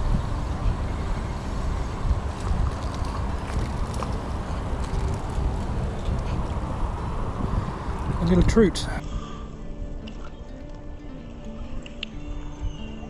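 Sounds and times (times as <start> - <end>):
wind buffeting microphone: 0.0 - 10.6
low unsteady rumble: 0.0 - 11.0.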